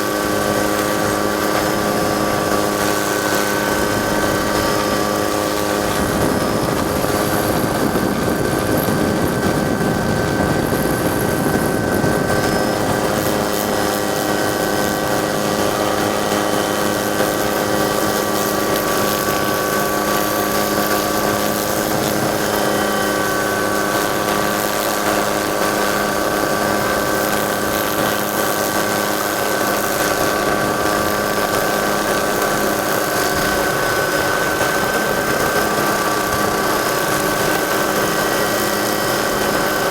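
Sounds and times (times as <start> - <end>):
helicopter engine drone: 0.0 - 39.9.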